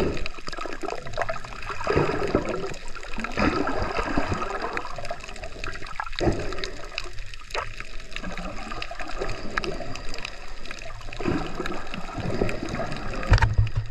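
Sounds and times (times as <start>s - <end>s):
scattered clicks and crackles: 0.0s - 13.9s
water gurgling underwater: 0.0s - 13.9s.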